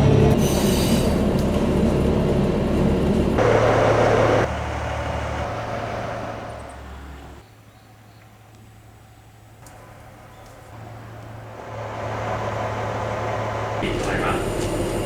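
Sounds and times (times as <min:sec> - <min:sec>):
diesel railcar engine hum: 0:00.0 - 0:15.0.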